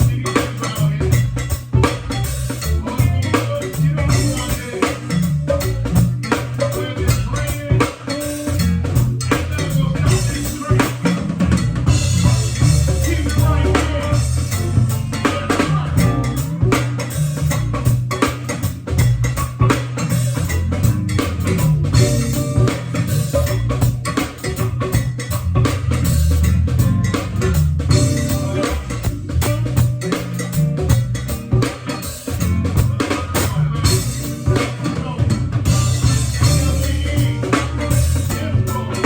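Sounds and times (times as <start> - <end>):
band playing: 0.0 - 39.0
drum kit: 0.0 - 39.0.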